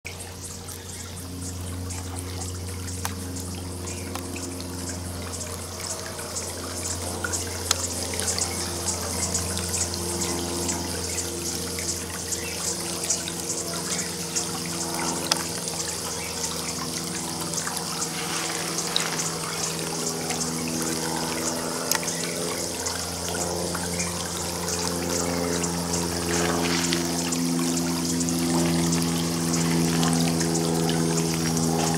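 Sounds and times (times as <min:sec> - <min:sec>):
low steady hum: 0:00.1 - 0:31.9
water trickling and splashing: 0:00.1 - 0:31.9.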